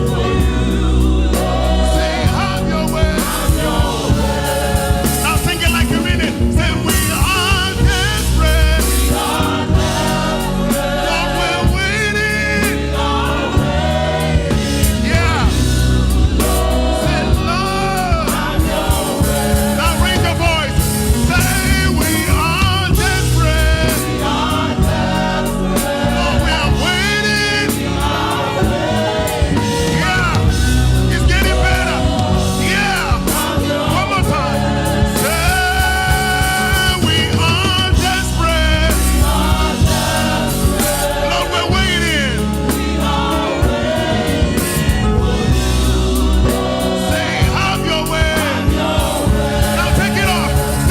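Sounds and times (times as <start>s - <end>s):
bass and drums beat: 0.0s - 50.9s
gospel choir singing: 0.0s - 50.9s.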